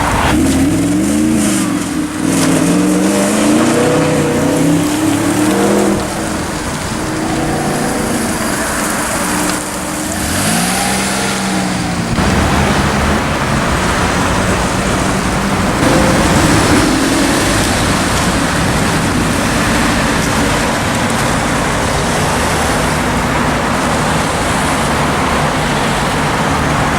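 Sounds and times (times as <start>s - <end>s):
car engine revving: 0.0s - 26.9s
road and traffic noise: 0.0s - 26.9s.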